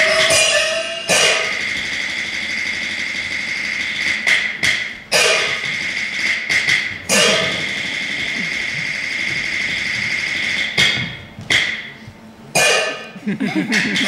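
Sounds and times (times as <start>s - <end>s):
cymbal and gong strikes: 0.0s - 10.9s, 12.5s - 13.2s
steady metallic ring: 0.0s - 14.0s.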